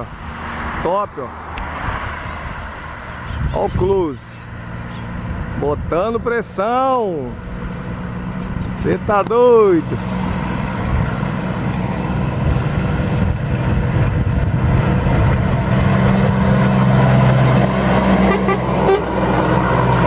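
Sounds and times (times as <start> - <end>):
diesel truck engine: 0.0 - 20.0
road noise: 0.0 - 20.0.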